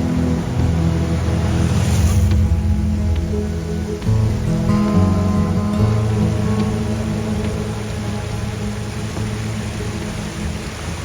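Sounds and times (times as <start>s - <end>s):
sustained low chord music: 0.0s - 11.0s.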